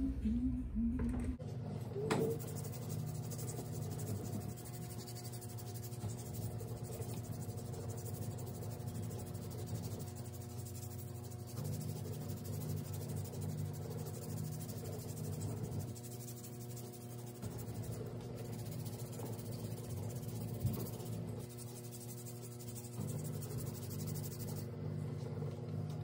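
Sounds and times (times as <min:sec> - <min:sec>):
steady low hum: 0:00.0 - 0:26.0
nail file scratching: 0:02.1 - 0:24.7.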